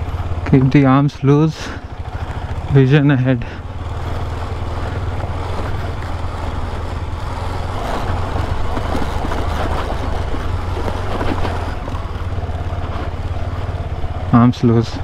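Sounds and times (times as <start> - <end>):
motorcycle engine running: 0.0 - 15.0
wind and tyre noise: 0.0 - 15.0.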